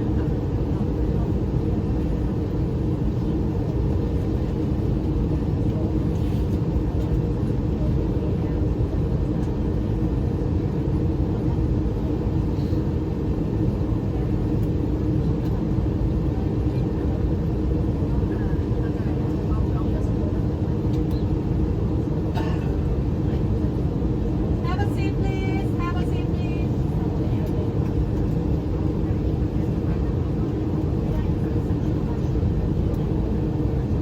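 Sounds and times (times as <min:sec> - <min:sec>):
aircraft cabin rumble: 0:00.0 - 0:34.0
faint steady hums: 0:00.0 - 0:34.0.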